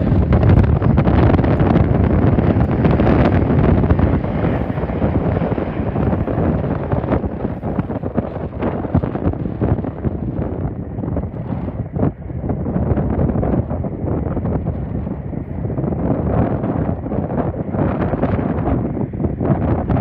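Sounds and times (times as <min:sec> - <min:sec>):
jet airliner rumble: 0:00.0 - 0:20.0
wind buffeting microphone: 0:00.0 - 0:20.0.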